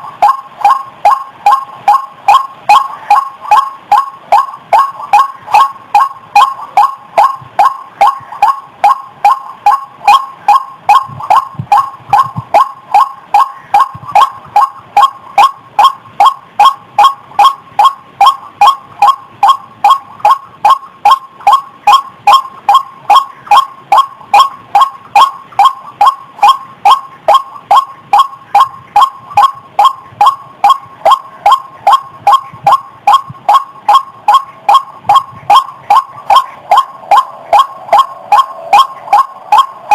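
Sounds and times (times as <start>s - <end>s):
waterhen harsh calls: 0.0s - 39.9s.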